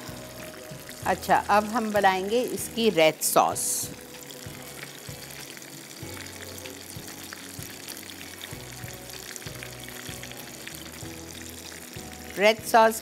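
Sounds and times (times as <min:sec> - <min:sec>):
background music: 0:00.0 - 0:13.0
fish frying in oil: 0:00.0 - 0:13.0.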